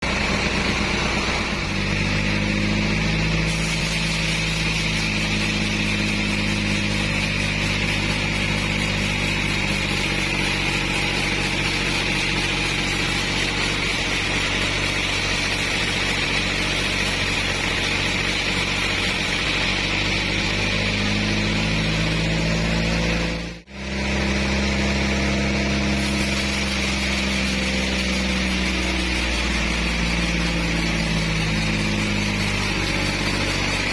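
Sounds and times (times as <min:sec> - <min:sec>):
engine humming: 0:00.0 - 0:33.9
saw blade cutting wood: 0:00.0 - 0:33.9.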